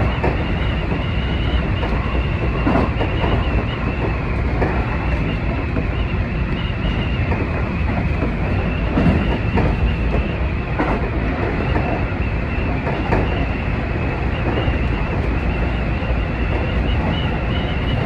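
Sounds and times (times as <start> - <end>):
rail-joint clacks: 0.0 - 18.0
train wheels rumbling on rail: 0.0 - 18.0.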